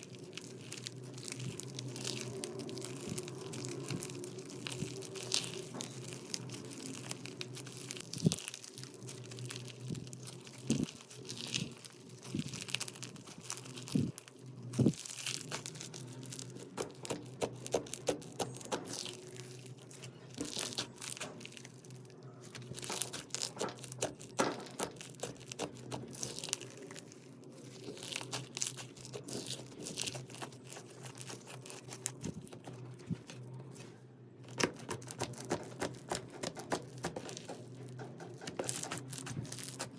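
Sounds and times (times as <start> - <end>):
slime crackling and popping: 0.0 - 33.8, 34.4 - 39.9
faint steady hum: 0.0 - 39.9.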